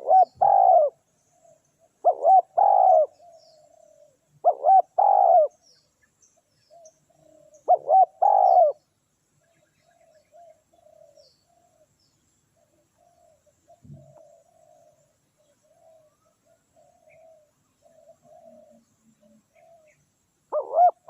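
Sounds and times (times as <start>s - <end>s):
dove cooing: 0.0s - 5.6s, 6.7s - 8.8s, 9.8s - 11.9s, 12.6s - 21.0s.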